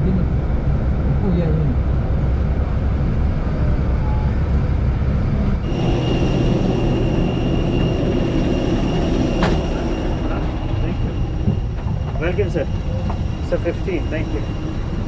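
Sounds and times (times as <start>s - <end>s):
high-pitched turbine whine: 0.0s - 15.0s
loud low rumble: 0.0s - 15.0s.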